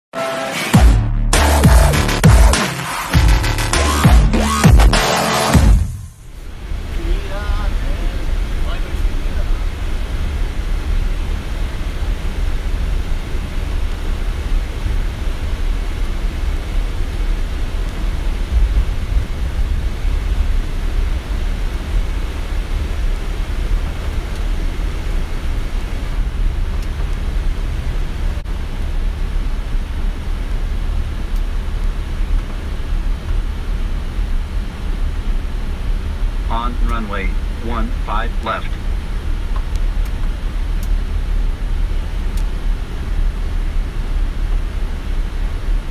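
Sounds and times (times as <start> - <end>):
cockpit hiss: 5.5 - 45.9
low engine rumble: 5.6 - 45.9.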